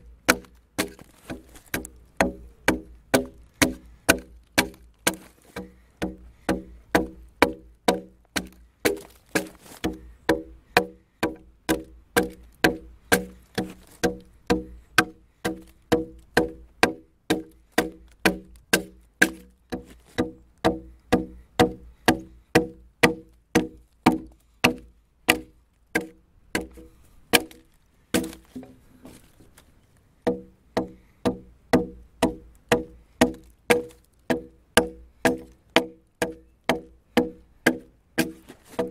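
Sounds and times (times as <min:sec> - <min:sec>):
sharp woody knocks: 0:00.2 - 0:28.8, 0:30.2 - 0:38.9.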